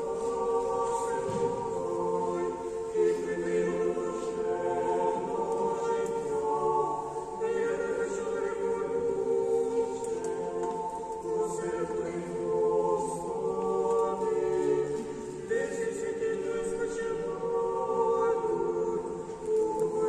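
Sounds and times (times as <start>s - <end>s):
choir singing a hymn unaccompanied: 0.0s - 20.0s.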